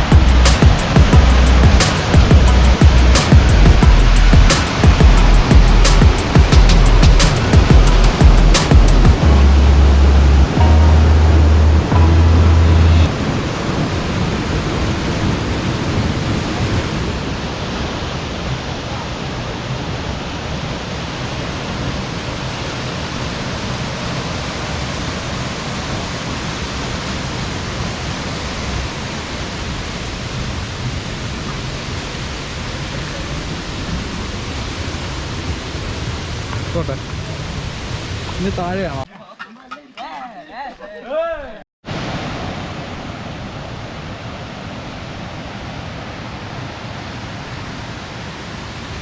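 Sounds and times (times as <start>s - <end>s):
waterfall rushing: 0.0s - 39.1s, 41.9s - 49.0s.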